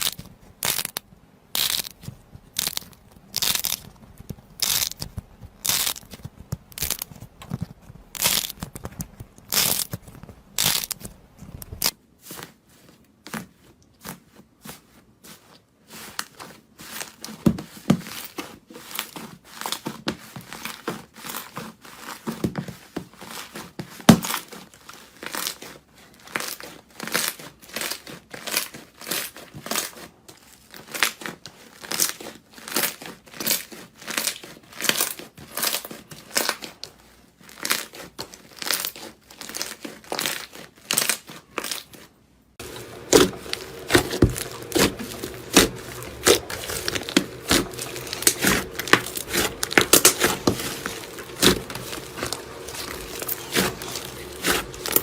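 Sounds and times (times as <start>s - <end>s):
crunchy material crushed by hand: 0.0s - 12.0s, 15.9s - 55.0s.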